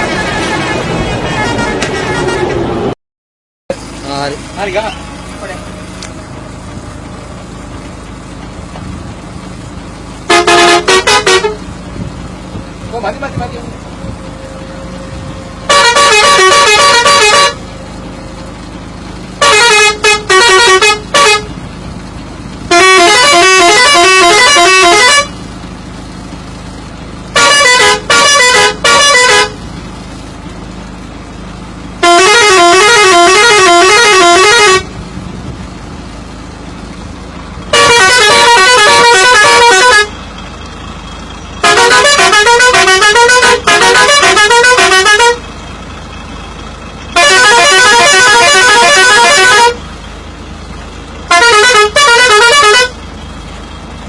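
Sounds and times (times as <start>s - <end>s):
bus musical horn melodies: 0.0s - 3.0s, 5.0s - 12.8s, 13.8s - 22.0s, 22.6s - 30.0s, 31.0s - 36.1s, 36.8s - 45.8s, 47.0s - 53.7s.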